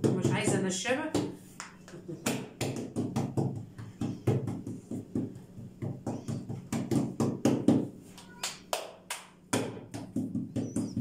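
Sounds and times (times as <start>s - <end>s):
hands patting dough: 0.0s - 11.0s.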